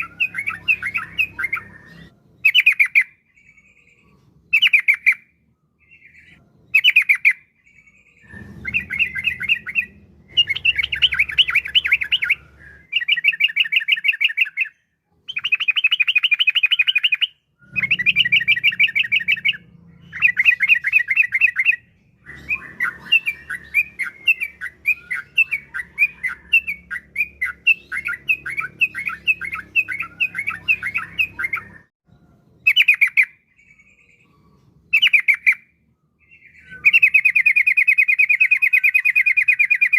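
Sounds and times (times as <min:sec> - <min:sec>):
bulbul chattering song: 0:00.0 - 0:31.9, 0:32.6 - 0:39.9.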